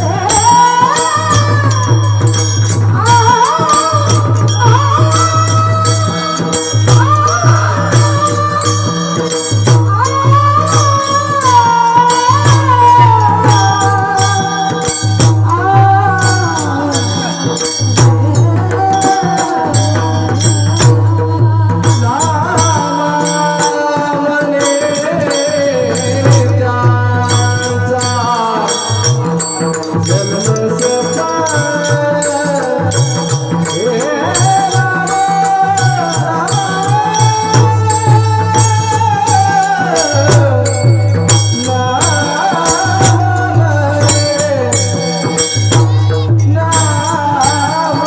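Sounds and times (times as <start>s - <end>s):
fast bright percussion: 0.0s - 48.0s.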